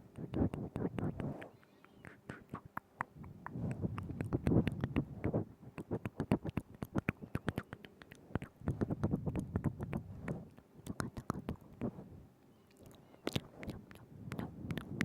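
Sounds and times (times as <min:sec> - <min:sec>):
wet mouth clicks and smacks: 0:00.1 - 0:11.9, 0:12.7 - 0:15.0.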